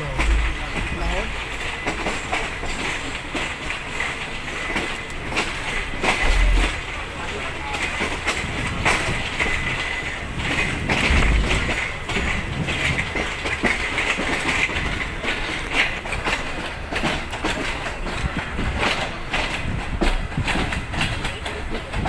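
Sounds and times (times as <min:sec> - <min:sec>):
train rumble inside carriage: 0:00.0 - 0:22.0
wheels clicking over track: 0:00.0 - 0:22.0.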